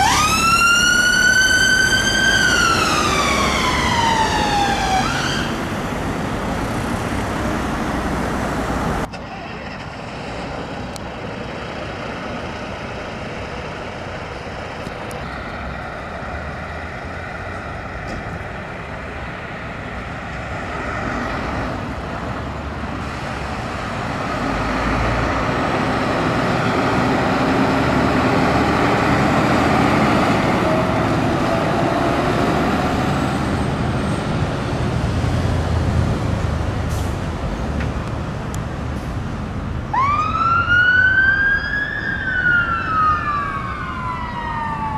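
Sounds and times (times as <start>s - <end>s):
truck diesel engine accelerating: 0.0s - 41.1s.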